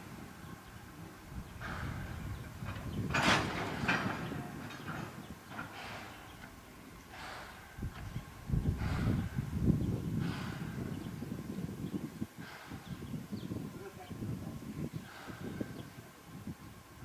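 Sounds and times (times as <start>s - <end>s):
steam locomotive puffs: 0.0s - 17.0s.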